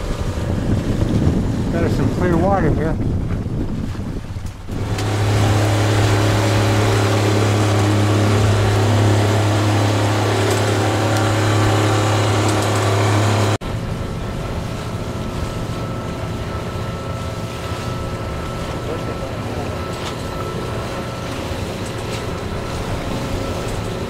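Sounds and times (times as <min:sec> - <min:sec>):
boat drone on water: 0:00.0 - 0:24.0
boat motor running: 0:00.0 - 0:24.0.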